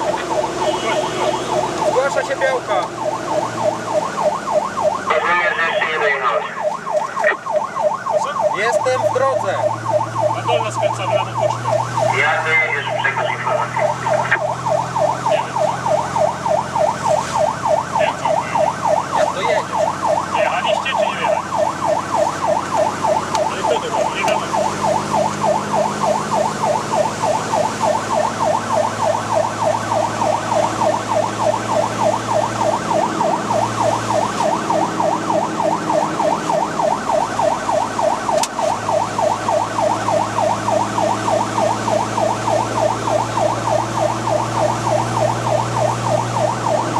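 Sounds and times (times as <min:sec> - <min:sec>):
diesel engine running: 0:00.0 - 0:46.9
fire engine siren yelping: 0:00.0 - 0:46.9.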